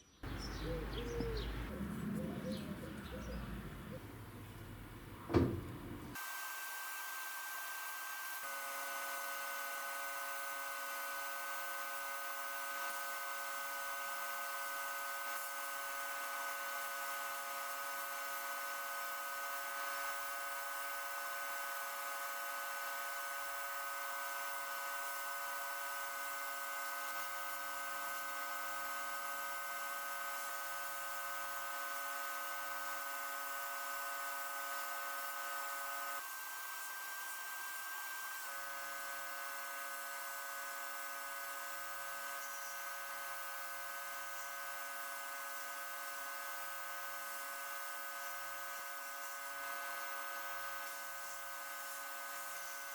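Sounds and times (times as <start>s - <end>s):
electric power tool whining: 4.6s - 52.9s.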